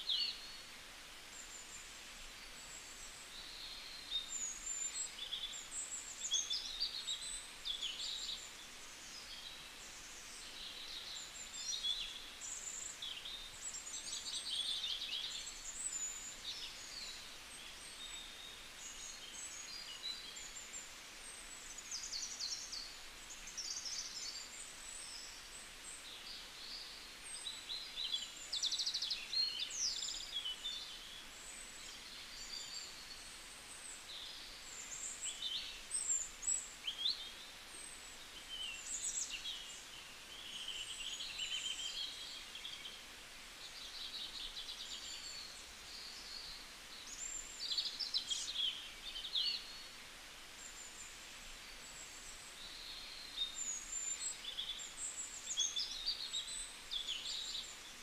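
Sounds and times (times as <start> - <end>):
small birds chirping: 0.0 - 0.7, 1.3 - 58.0
outdoor background noise: 0.0 - 58.0.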